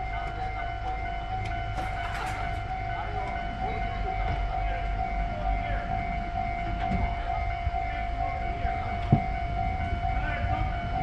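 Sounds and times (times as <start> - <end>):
level crossing warning bell: 0.0 - 11.0
passing train rumble: 0.0 - 11.0.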